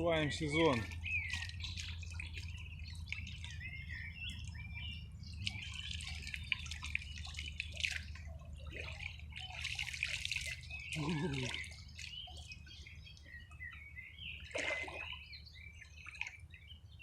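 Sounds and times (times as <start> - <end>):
water splashing and dripping: 0.0 - 16.6
birds chirping: 0.0 - 17.0.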